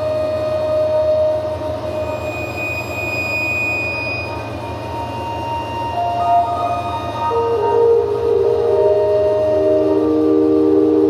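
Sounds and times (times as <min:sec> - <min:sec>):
held electronic drone tones: 0:00.0 - 0:11.0
high whistling tone: 0:00.0 - 0:11.0.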